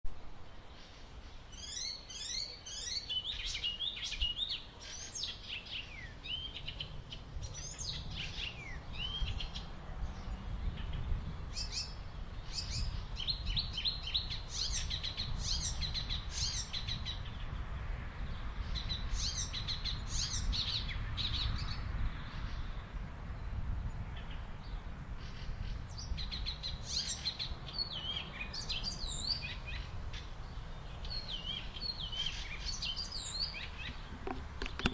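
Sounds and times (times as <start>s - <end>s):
songbirds chirping: 0.1s - 34.9s.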